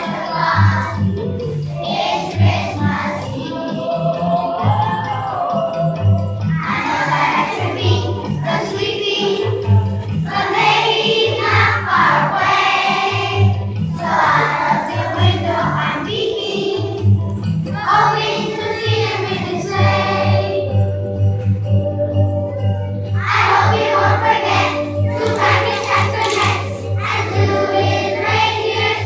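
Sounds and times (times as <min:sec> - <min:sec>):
children's choir singing: 0:00.0 - 0:21.1, 0:21.7 - 0:29.0
recorded musical accompaniment: 0:00.0 - 0:29.0.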